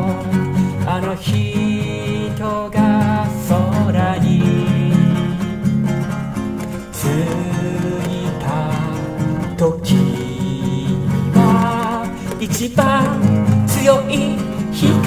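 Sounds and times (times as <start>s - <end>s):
man singing: 0.0s - 5.8s, 6.9s - 15.0s
classical guitar playing: 0.0s - 15.0s.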